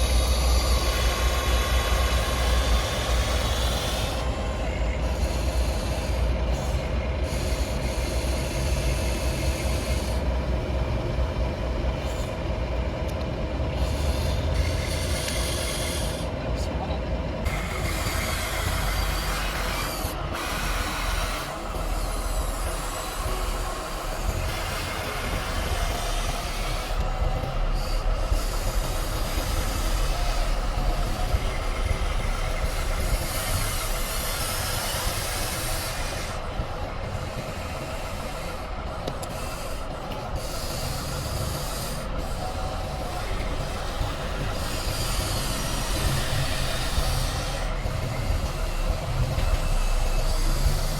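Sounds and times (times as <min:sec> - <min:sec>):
model motor and gear whir: 0:00.0 - 0:50.9.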